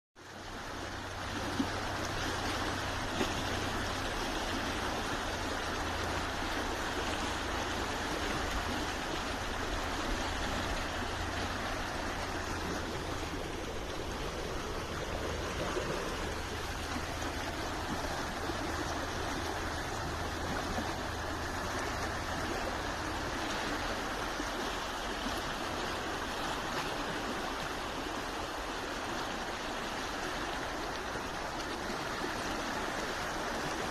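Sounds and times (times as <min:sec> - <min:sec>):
running water rushing: 0:00.2 - 0:33.9.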